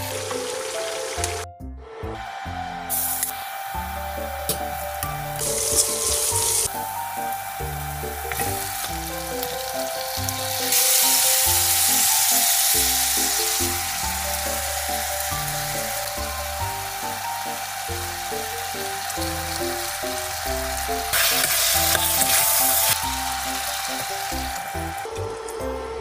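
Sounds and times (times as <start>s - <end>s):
meat and onions sizzling in oil: 0.0s - 1.4s, 2.9s - 25.1s
background music: 0.0s - 26.0s.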